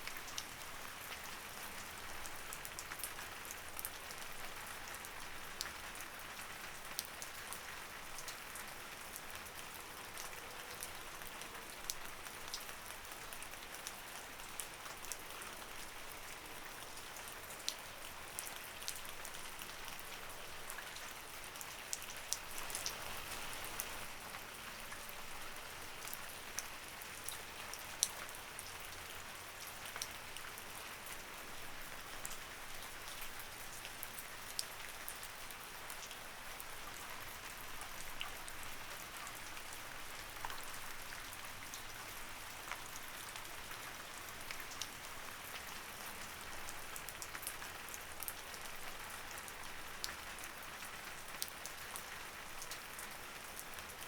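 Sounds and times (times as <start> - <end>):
light rain hiss: 0.0 - 54.0
raindrops ticking on a surface: 0.0 - 54.0.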